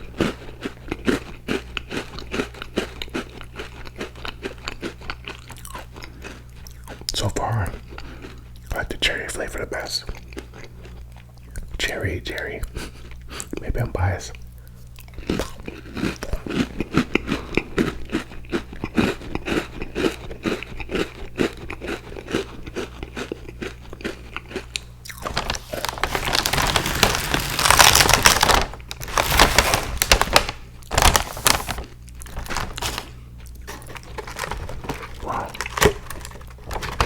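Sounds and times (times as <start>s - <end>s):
chewing crunchy cookies: 0.0s - 37.0s.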